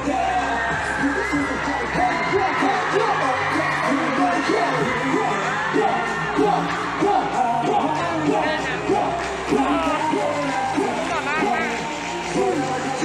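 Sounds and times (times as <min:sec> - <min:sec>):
fans whooping and yelling: 0:00.0 - 0:13.0
live pop music with male vocals: 0:00.0 - 0:13.0.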